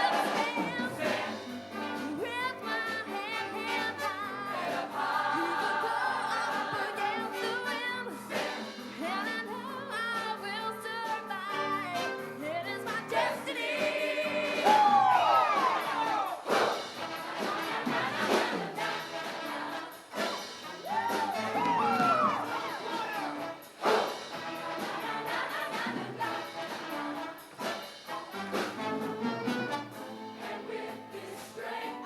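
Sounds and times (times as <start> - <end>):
choir singing: 0.0 - 9.9, 12.4 - 32.0
musical accompaniment: 0.0 - 32.0.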